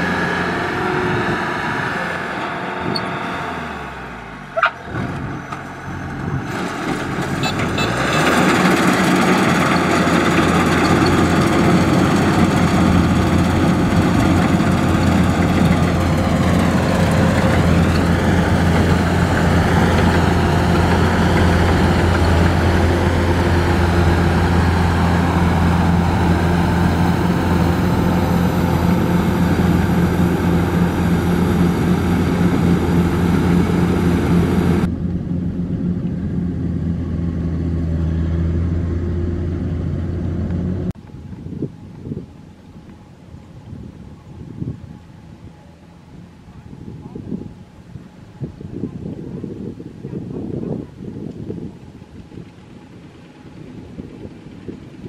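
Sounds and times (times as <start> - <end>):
harvester mechanical noise: 0.0 - 48.5
diesel engine drone: 0.0 - 55.0.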